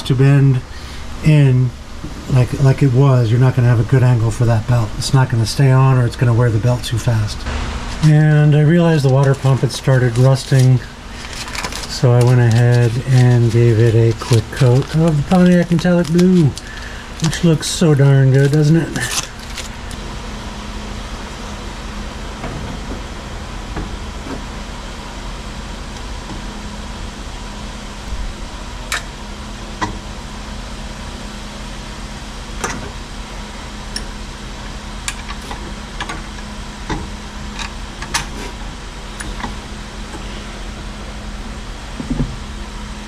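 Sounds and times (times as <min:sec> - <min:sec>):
mechanical hum: 0:00.0 - 0:43.0.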